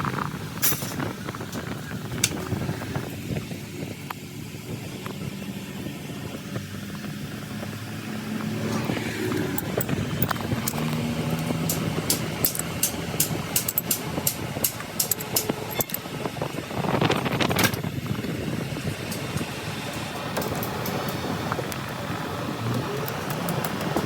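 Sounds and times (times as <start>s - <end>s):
motor humming: 1.0s - 24.0s.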